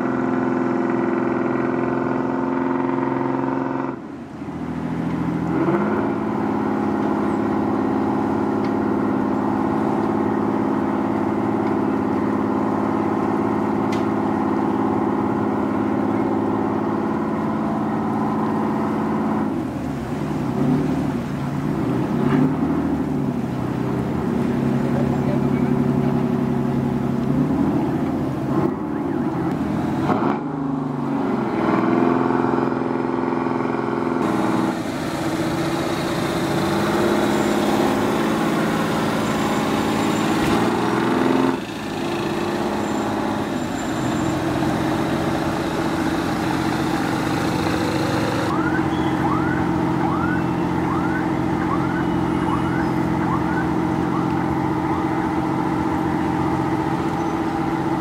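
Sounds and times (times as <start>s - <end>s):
boat diesel engines humming: 0.0s - 58.0s.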